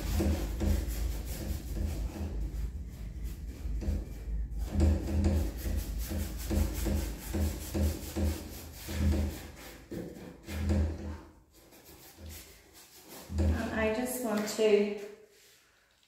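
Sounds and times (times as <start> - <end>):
paintbrush scrubbing wood: 0.0 - 14.4, 15.3 - 15.7.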